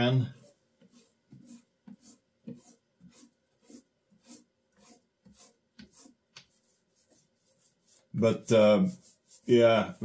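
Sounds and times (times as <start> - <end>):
paint roller rubbing on wood: 0.0 - 10.0.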